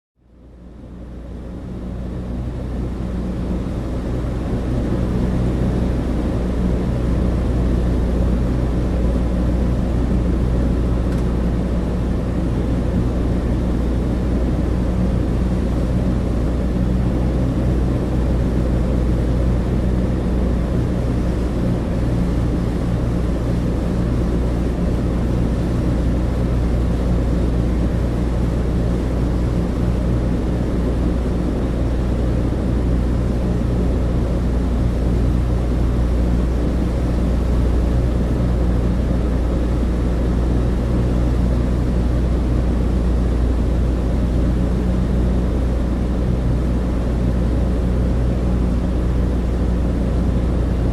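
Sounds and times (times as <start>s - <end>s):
deep propeller engine drone: 0.2s - 50.9s.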